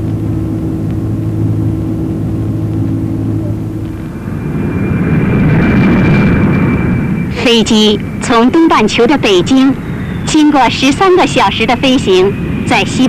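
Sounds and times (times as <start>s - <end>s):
jet engine high whine: 0.0s - 13.0s
jet engines droning: 0.0s - 13.0s.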